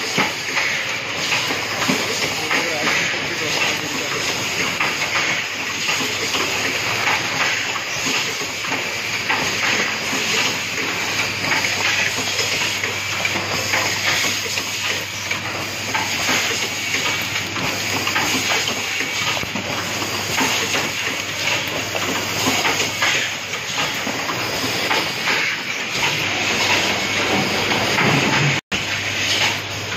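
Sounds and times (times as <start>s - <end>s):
machinery hissing: 0.0s - 29.9s.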